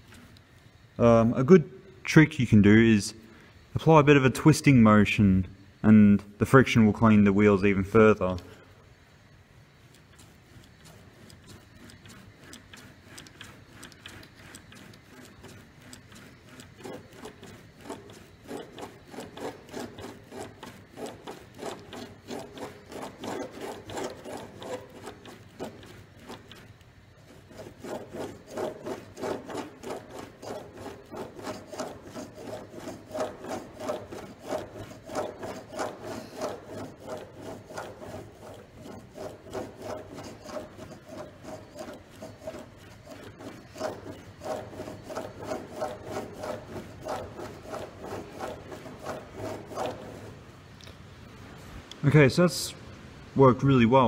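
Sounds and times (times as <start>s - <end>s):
wheels rubbing on paper towel: 0.0s - 1.3s, 9.7s - 51.7s.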